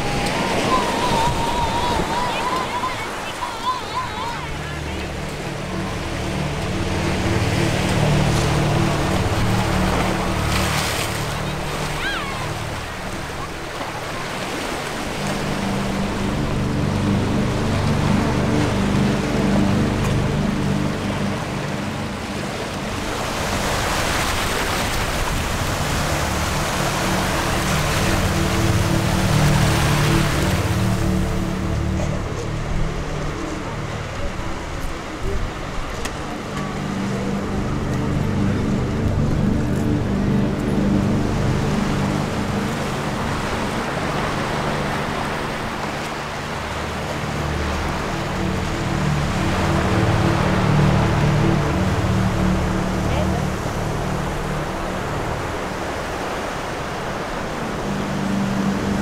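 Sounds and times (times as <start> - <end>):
sea surf rushing: 0.0 - 59.0
soft background music: 0.0 - 59.0
waves washing onto shore: 0.0 - 59.0
wind: 0.0 - 59.0.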